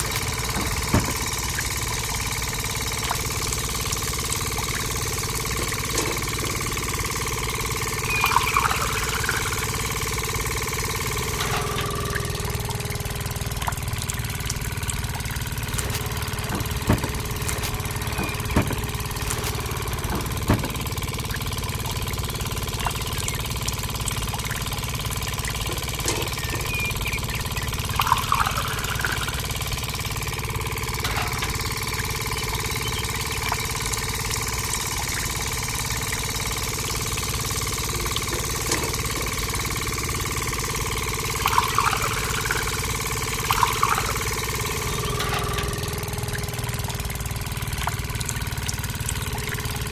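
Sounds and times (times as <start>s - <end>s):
small motor running: 0.0s - 49.9s.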